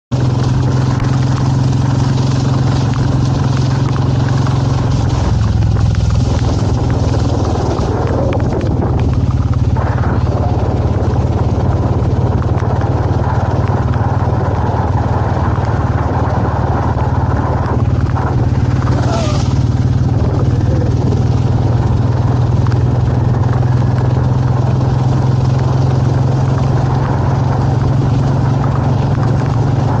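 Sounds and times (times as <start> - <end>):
motorcycle engine running: 0.1 - 30.0.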